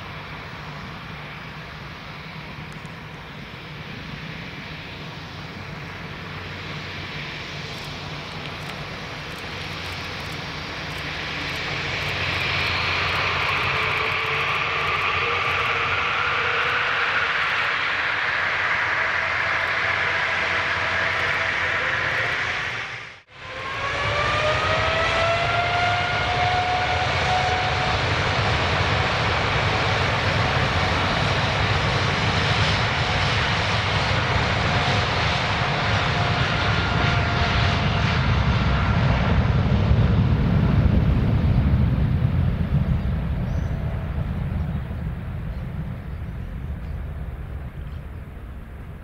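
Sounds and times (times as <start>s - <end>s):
jet engine whine rising: 0.0s - 49.0s
jet engines running: 0.0s - 49.0s.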